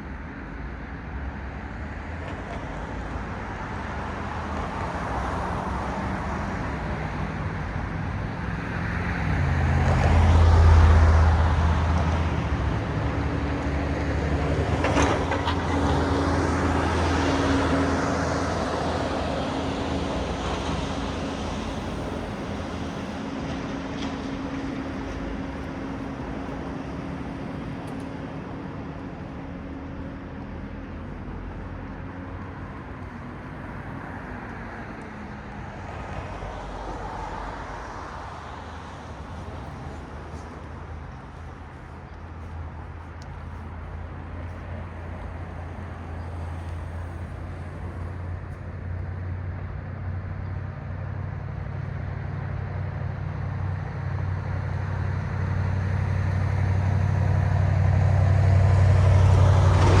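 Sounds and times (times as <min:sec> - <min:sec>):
low engine hum: 0:00.0 - 1:00.0
road traffic passing: 0:00.0 - 1:00.0.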